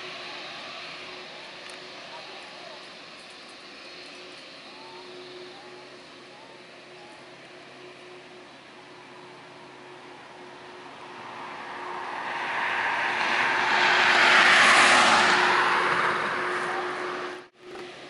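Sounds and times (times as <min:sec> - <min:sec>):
jet airliner passing: 0:00.0 - 0:17.6.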